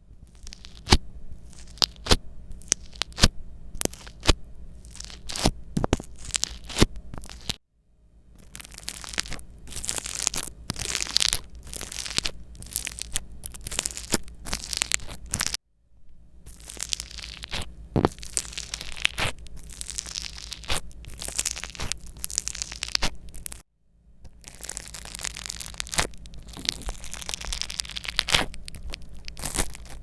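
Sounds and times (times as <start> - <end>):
slime crackles and pops: 0.3 - 7.6, 8.4 - 15.6, 16.5 - 23.6, 24.3 - 30.0.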